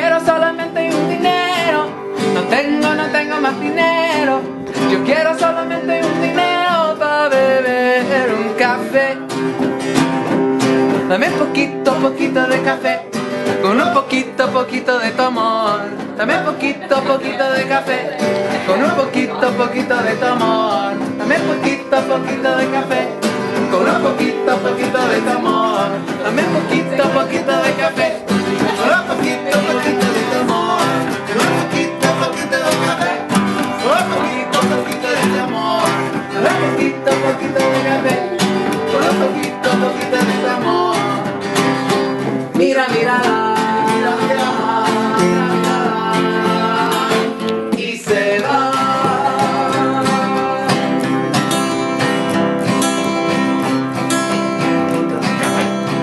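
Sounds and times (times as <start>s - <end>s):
person singing: 0.0s - 51.8s
acoustic guitar strumming: 0.0s - 56.0s.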